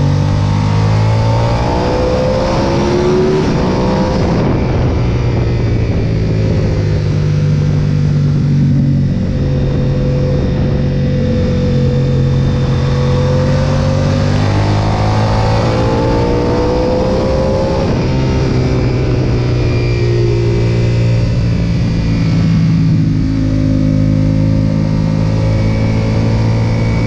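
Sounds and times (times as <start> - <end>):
motorcycle engine at high revs: 0.0 - 27.0
rushing wind noise: 0.0 - 27.0.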